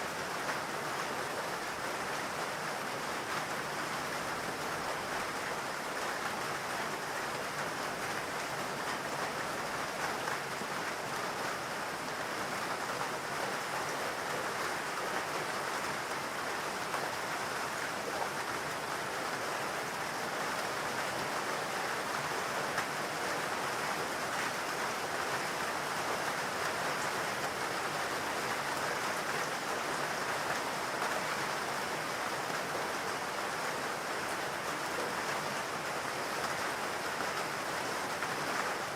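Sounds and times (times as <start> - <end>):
steady rain in a forest: 0.0 - 38.9.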